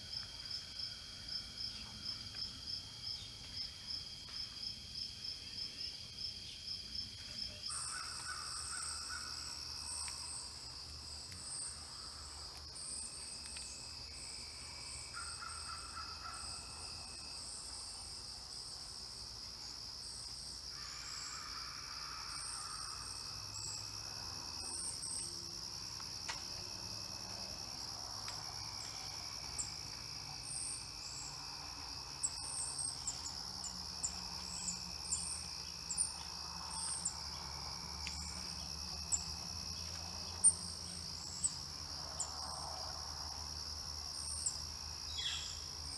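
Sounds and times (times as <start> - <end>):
insect chorus: 0.0 - 45.9.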